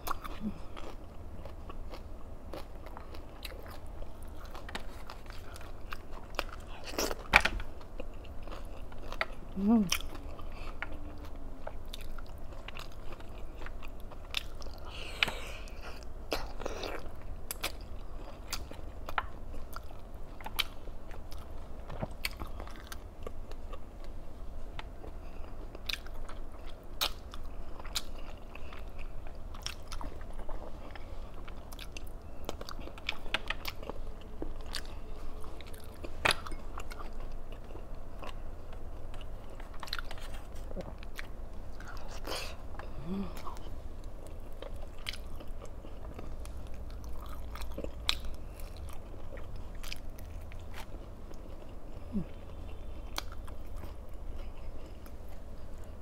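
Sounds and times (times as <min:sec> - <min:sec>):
person chewing and biting: 0:00.0 - 0:24.2, 0:24.8 - 0:56.0
low steady hum: 0:00.0 - 0:56.0.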